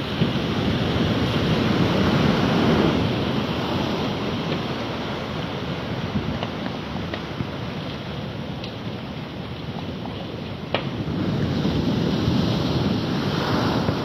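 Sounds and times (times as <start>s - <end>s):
waves crashing: 0.0s - 14.0s
wind buffeting microphone: 0.0s - 14.0s.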